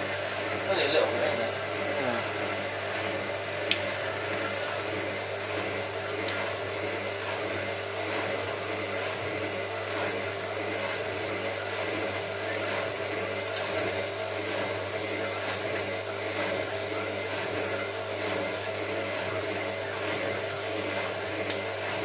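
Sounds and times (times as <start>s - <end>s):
washing machine whirring: 0.0s - 22.0s.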